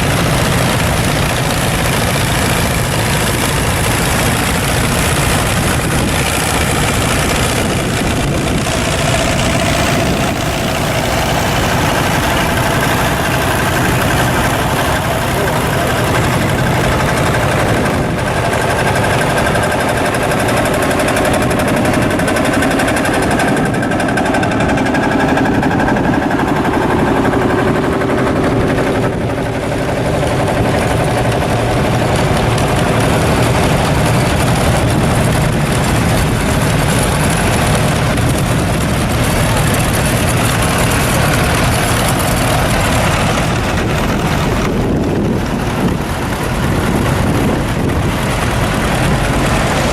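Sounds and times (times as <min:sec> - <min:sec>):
tractor engines idling: 0:00.0 - 0:49.9.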